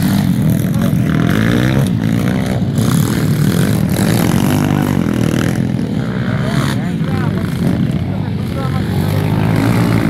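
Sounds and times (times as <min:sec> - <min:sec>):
pit bike engines revving: 0:00.0 - 0:10.0.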